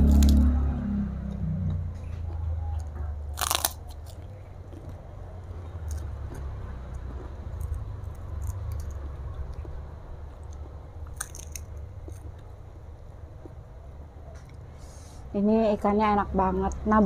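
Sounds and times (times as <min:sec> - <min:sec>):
person chewing food: 0:00.0 - 0:13.7.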